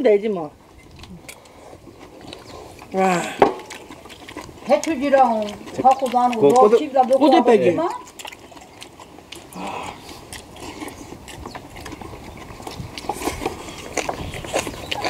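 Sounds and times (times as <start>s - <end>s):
people chewing: 0.6s - 15.0s.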